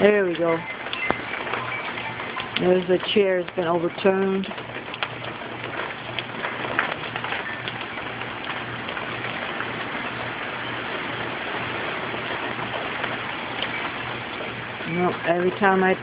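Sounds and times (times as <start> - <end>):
heavy rain falling: 0.0 - 16.0
sharp raindrop hits: 0.0 - 16.0.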